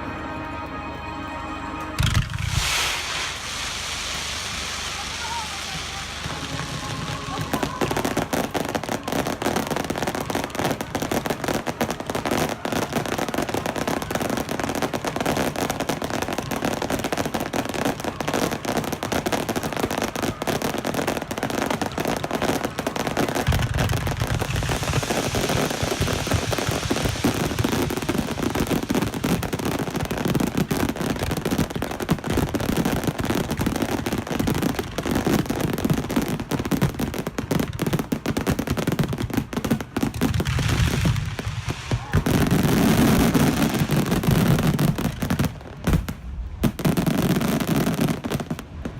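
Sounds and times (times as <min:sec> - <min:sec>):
fireworks crackling: 0:01.9 - 0:48.9
deep rumble of fireworks bursts: 0:02.0 - 0:48.9.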